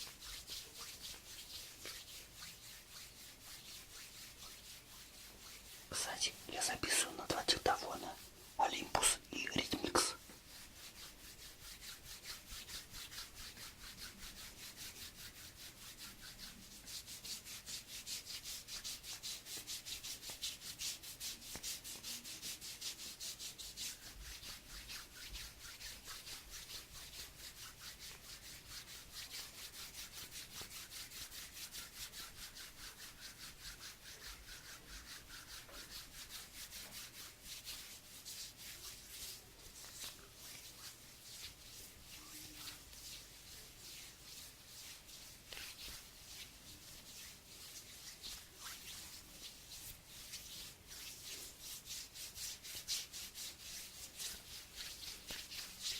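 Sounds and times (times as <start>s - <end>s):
hands rubbing together: 0.0s - 55.9s.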